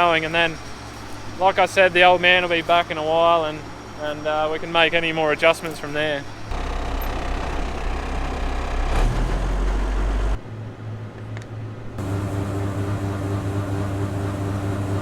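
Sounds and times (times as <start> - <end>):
farm machinery engines droning: 0.0 - 10.6, 11.2 - 15.0
engine low hum: 0.0 - 15.0.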